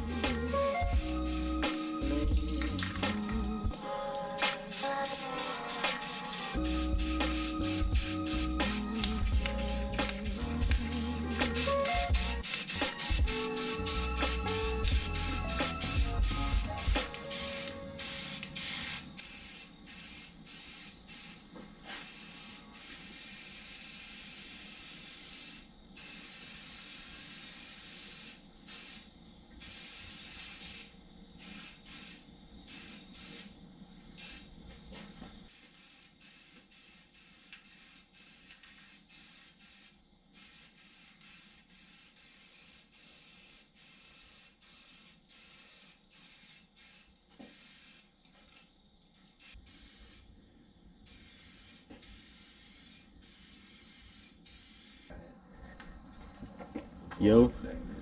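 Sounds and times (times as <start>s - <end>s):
spray paint can hissing: 0.0s - 3.3s, 4.4s - 33.6s, 34.2s - 34.5s, 35.5s - 48.2s, 49.4s - 50.3s, 51.1s - 55.1s.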